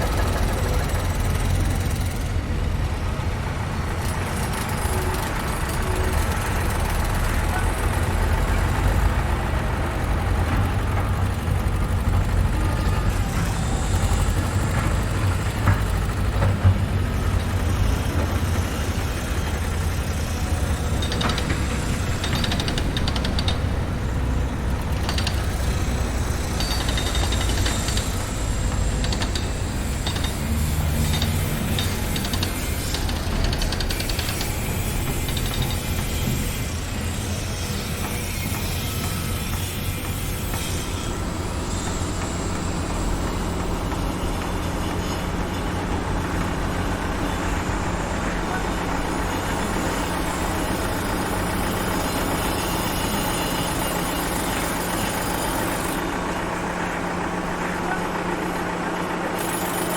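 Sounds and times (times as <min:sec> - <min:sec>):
diesel engine rumbling: 0:00.0 - 0:59.4
machinery clanks and rattles: 0:00.0 - 0:59.9.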